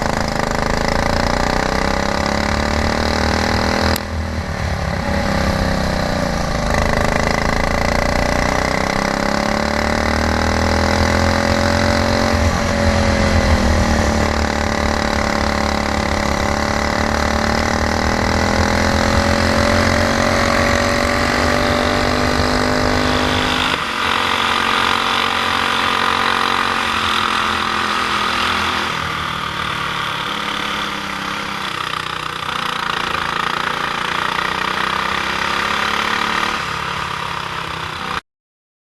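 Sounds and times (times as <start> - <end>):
kart engine running: 0.0 - 38.2
steady engine sound: 0.0 - 38.2.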